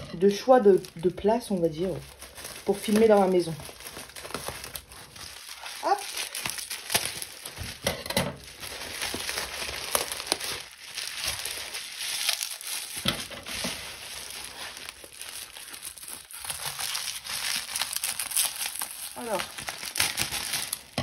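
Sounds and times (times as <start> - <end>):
bubble wrap crinkling: 0.0 - 21.0.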